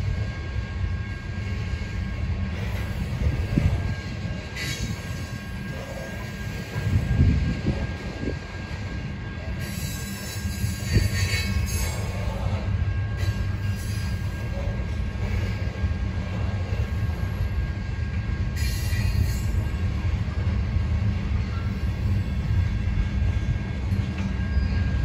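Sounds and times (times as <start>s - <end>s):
train railcars rumbling: 0.0s - 25.0s
train wheel screeches: 1.0s - 19.8s, 23.2s - 25.0s.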